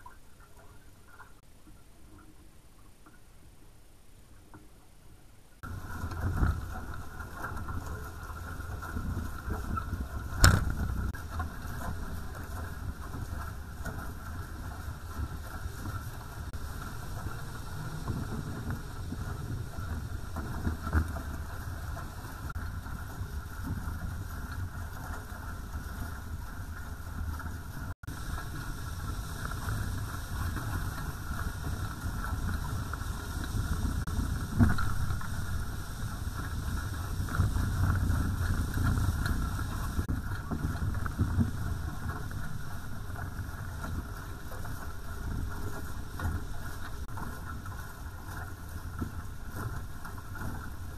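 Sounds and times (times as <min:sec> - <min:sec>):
water rushing past hulls: 0:00.0 - 0:50.9
wind buffeting microphone: 0:05.6 - 0:50.9.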